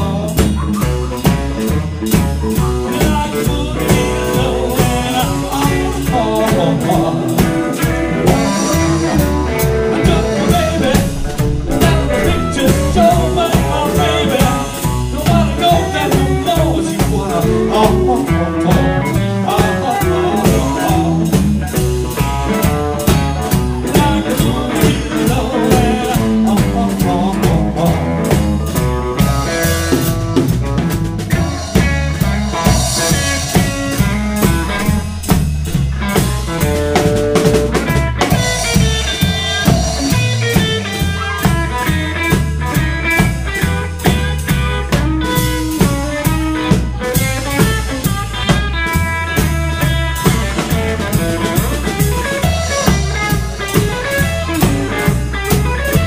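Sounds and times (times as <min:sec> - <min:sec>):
drum kit beat: 0:00.0 - 0:56.0
electric guitar: 0:00.0 - 0:56.0
plucked double bass: 0:00.0 - 0:56.0.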